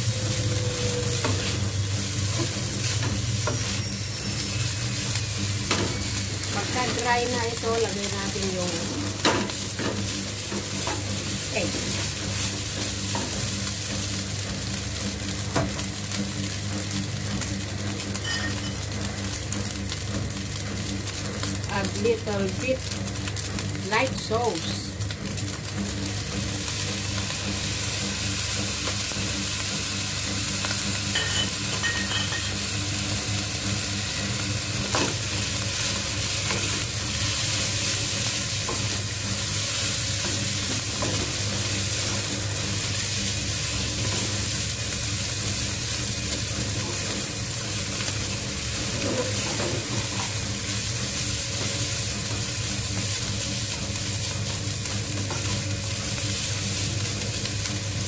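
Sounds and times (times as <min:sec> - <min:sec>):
rice sizzling in a wok: 0:00.0 - 0:58.0.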